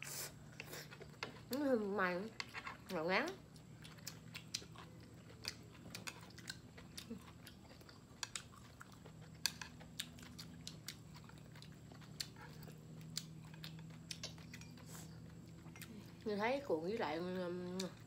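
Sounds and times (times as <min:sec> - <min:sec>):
chewing and crunching: 0:00.0 - 0:18.0.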